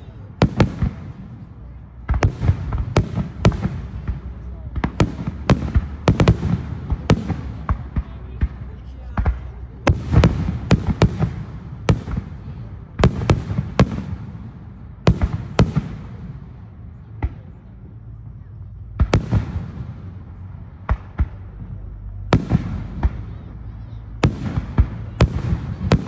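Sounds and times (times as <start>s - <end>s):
fireworks booming: 0.0s - 17.6s, 19.0s - 26.0s.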